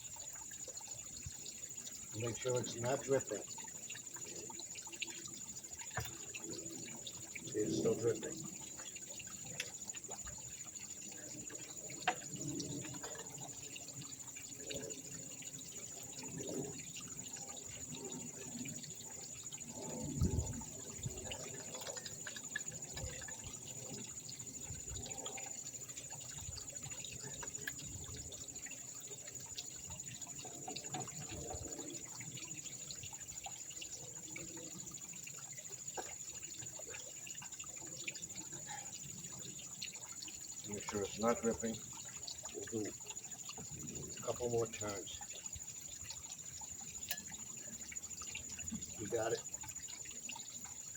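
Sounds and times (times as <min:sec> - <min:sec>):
water trickling: 0:00.0 - 0:50.9.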